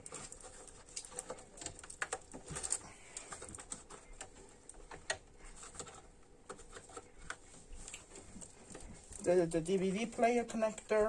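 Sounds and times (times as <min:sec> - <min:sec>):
clicks of handling cables: 0:00.0 - 0:09.3.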